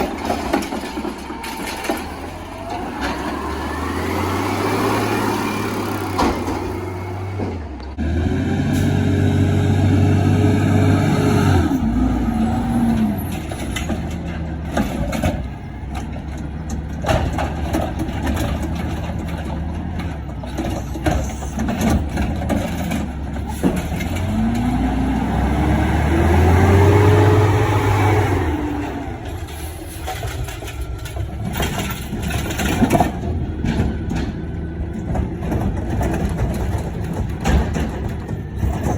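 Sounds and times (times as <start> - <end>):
garbage truck engine revving: 0.0 - 38.9.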